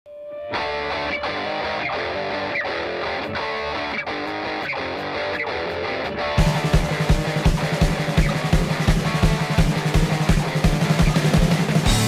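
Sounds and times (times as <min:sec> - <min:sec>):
instrumental guitar music: 0:00.1 - 0:12.0.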